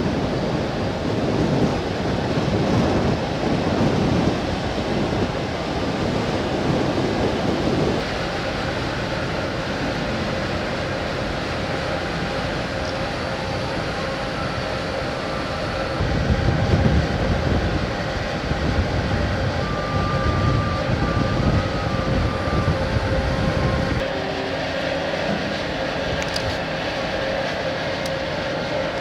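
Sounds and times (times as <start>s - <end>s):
ferry machinery rumble and hum: 0.0s - 29.0s.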